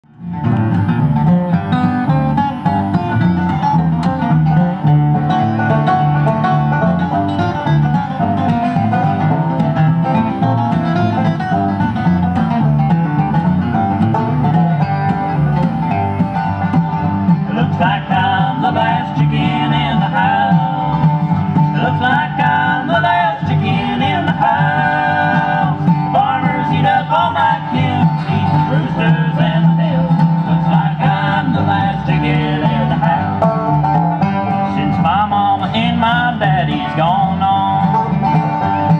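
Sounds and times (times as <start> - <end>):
bluegrass band with banjo and guitar: 0.0 - 38.9
sliding melody line: 0.2 - 38.8.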